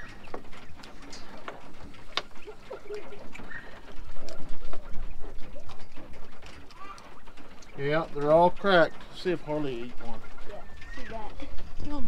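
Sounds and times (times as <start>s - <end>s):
quail clucking and chirping: 0.0s - 11.8s.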